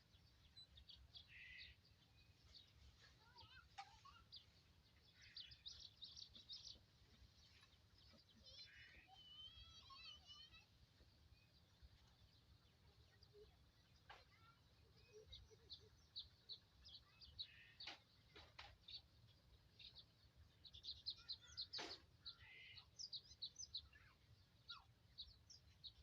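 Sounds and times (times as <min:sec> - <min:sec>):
faint bird chirping: 0:00.0 - 0:26.0.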